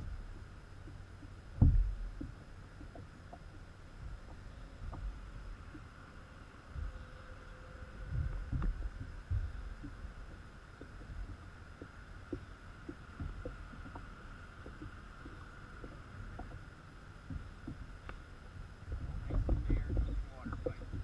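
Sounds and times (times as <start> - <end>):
low rumbling thumps: 0.0 - 5.9, 6.6 - 21.0
faint high hum: 0.0 - 21.0.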